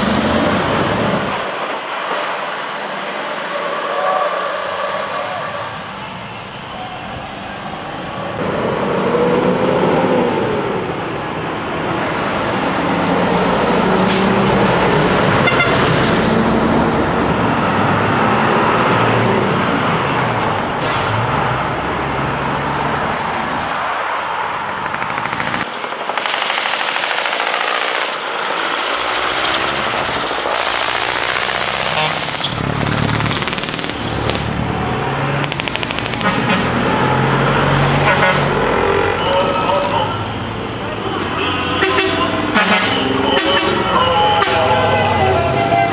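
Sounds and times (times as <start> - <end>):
truck diesel engines revving: 0.0 - 45.9.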